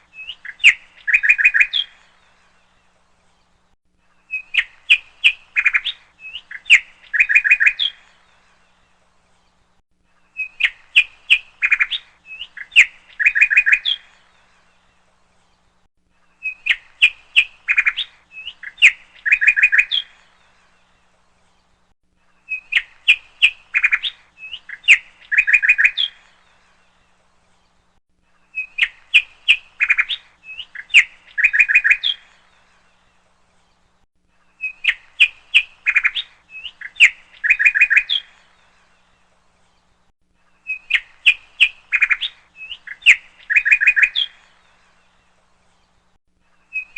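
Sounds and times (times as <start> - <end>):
bird chirps and trills: 0.0 - 3.6, 4.2 - 9.6, 10.2 - 46.9.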